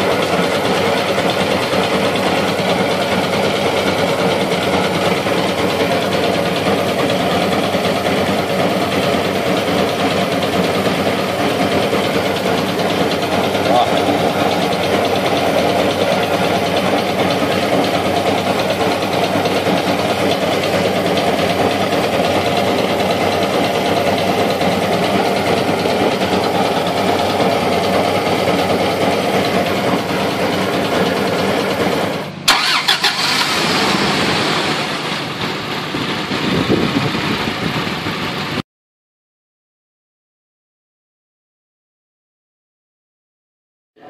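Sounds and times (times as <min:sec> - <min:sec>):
vehicle engine idling: 0:00.0 - 0:38.6.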